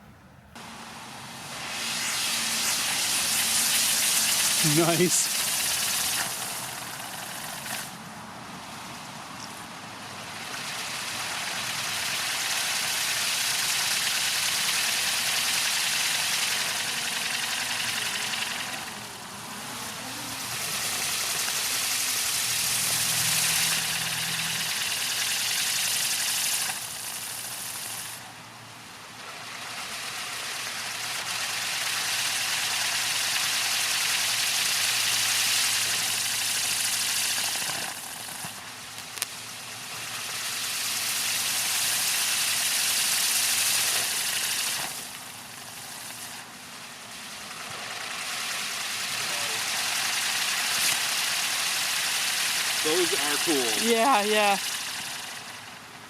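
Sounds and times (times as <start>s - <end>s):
firework fountains hissing: 0.0s - 56.0s.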